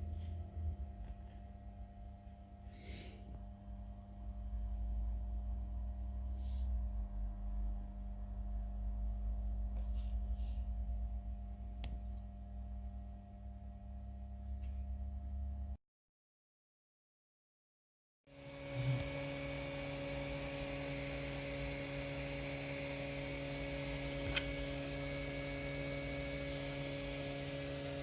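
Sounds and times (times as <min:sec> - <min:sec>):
low electrical hum: 0:00.0 - 0:15.8, 0:18.3 - 0:28.0.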